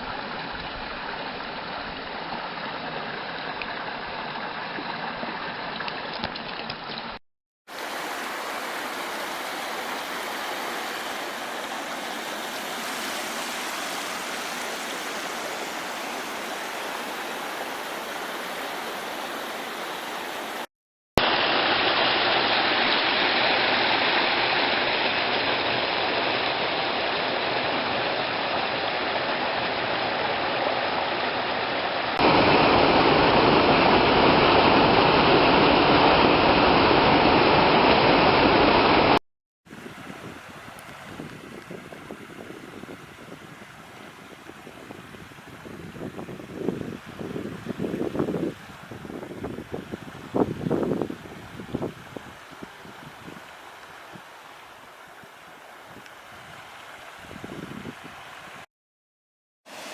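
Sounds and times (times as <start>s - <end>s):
mountain stream flowing: 0.0s - 58.7s, 59.7s - 59.9s.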